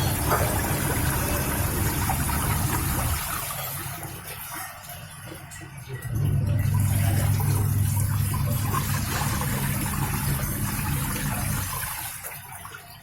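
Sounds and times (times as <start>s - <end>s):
washing machine motor humming: 0.0s - 13.0s
water churning in tub: 0.0s - 13.0s.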